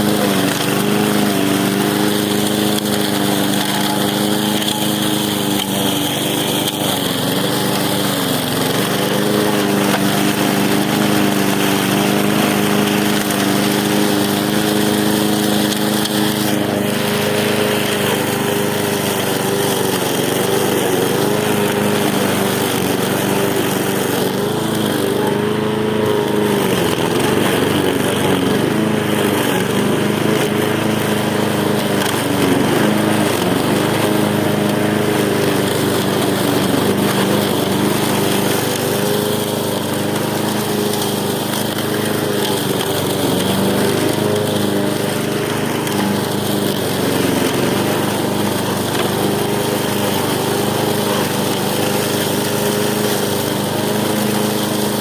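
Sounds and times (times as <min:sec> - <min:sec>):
lawn mower engine running: 0:00.0 - 0:55.0.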